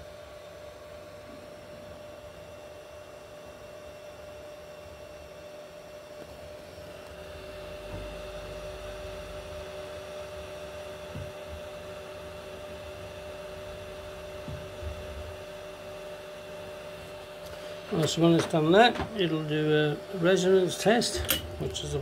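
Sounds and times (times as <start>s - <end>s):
printer motors humming and whining: 0.0s - 22.0s.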